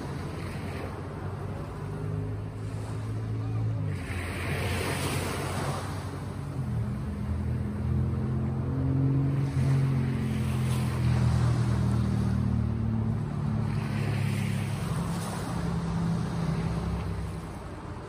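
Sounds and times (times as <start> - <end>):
low motor hum: 0.0 - 18.0
sea waves breaking: 0.0 - 18.0.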